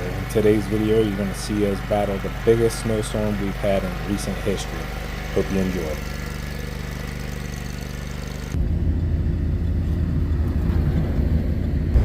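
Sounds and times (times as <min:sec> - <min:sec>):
deep engine rumble: 0:00.0 - 0:12.0
vehicle engine running: 0:00.0 - 0:12.0.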